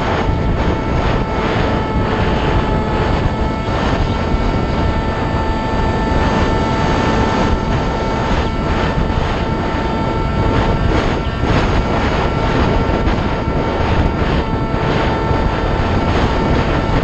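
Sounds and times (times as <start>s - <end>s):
electric motor and propeller whine: 0.0s - 17.0s
wind buffeting microphone: 0.0s - 17.0s.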